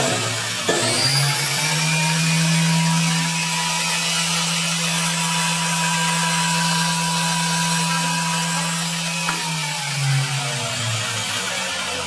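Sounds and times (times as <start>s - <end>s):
table saw motor whining: 0.0s - 12.0s.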